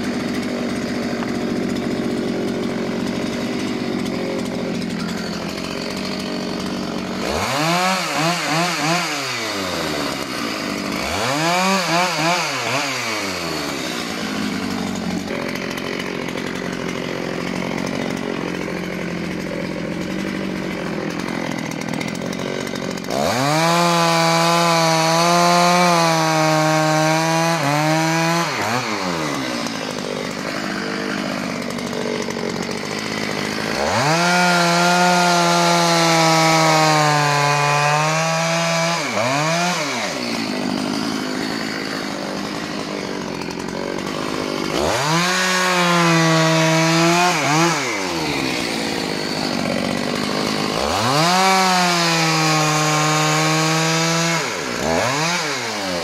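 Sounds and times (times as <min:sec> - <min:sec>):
chainsaw cutting logs: 0:00.0 - 0:56.0.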